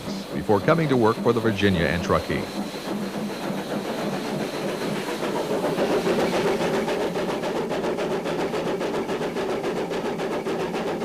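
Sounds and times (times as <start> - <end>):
steam train running: 0.0 - 11.0.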